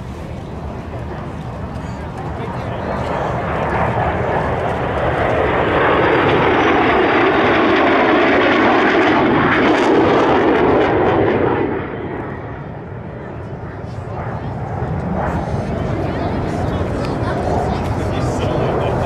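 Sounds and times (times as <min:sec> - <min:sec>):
jet engines passing: 0:00.0 - 0:19.0.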